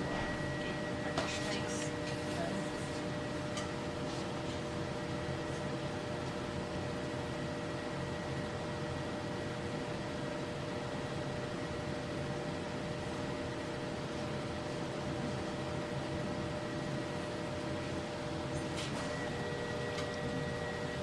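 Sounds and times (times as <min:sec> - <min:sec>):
potter's wheel motor humming: 0:00.0 - 0:21.0.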